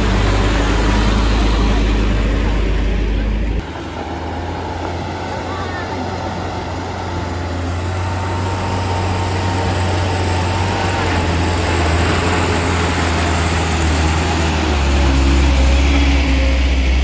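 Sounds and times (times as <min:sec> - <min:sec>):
diesel truck engine labouring: 0:00.0 - 0:17.0.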